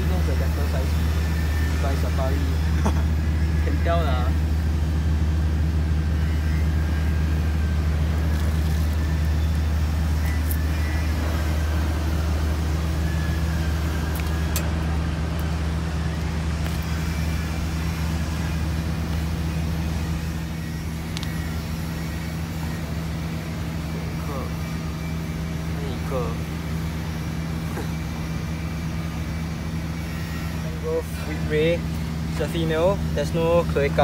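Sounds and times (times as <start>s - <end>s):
motor humming: 0.0s - 34.0s.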